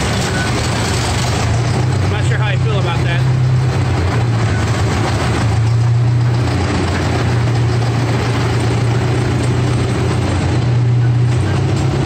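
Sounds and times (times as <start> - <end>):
small train engine droning: 0.0 - 12.0.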